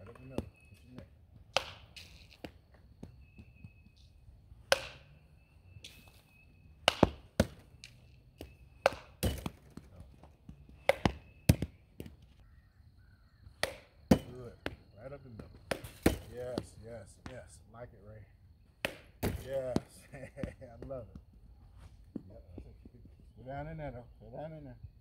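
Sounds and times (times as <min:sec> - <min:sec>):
bat cracking softballs: 0:00.0 - 0:12.4, 0:13.4 - 0:17.6, 0:18.7 - 0:22.6.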